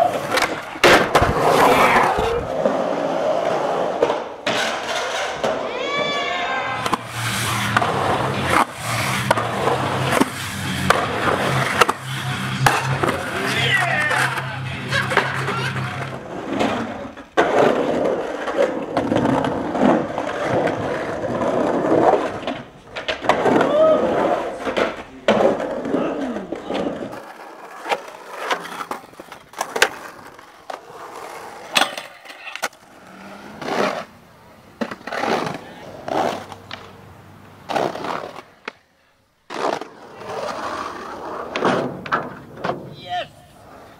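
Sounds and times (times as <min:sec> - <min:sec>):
skateboard clacks: 0:00.0 - 0:38.9
skateboard wheels rumbling on concrete: 0:00.0 - 0:43.9.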